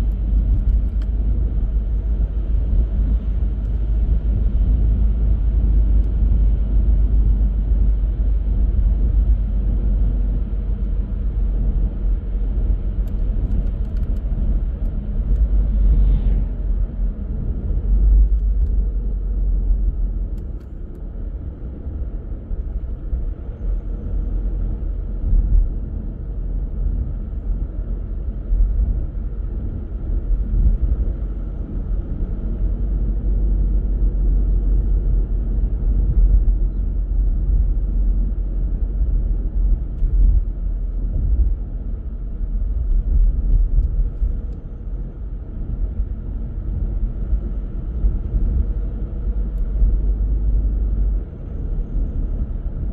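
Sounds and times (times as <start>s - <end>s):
car driving on road: 0.0s - 52.9s.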